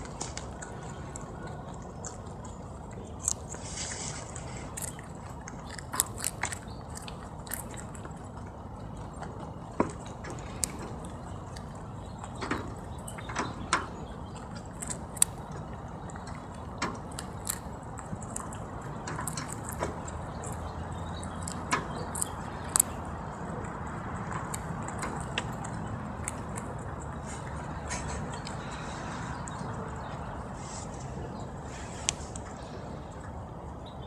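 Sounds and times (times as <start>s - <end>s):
rabbits crunching cucumber: 0.0s - 34.0s.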